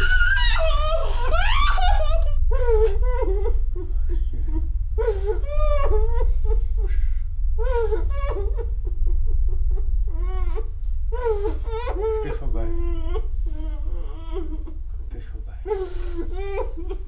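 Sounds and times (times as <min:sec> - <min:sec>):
woman whimpering and sobbing: 0:00.0 - 0:14.9, 0:15.6 - 0:17.0
steady low hum: 0:00.0 - 0:17.0.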